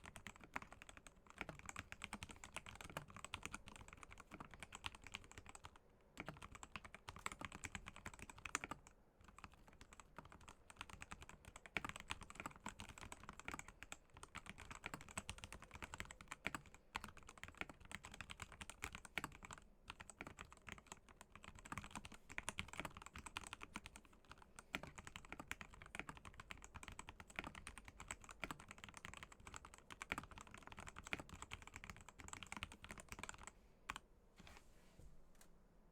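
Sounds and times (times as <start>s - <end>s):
mechanical keyboard typing: 0.0s - 34.0s.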